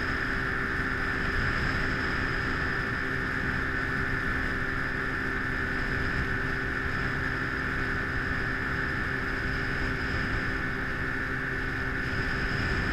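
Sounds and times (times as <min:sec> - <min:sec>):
hull and water rumble: 0:00.0 - 0:12.9
outboard motor drone: 0:00.0 - 0:12.9.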